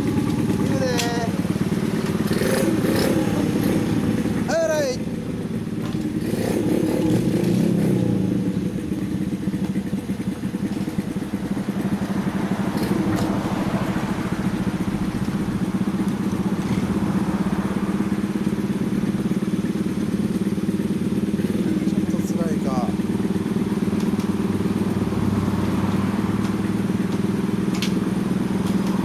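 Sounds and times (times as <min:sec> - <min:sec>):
small motorcycle engines idling: 0:00.0 - 0:29.0.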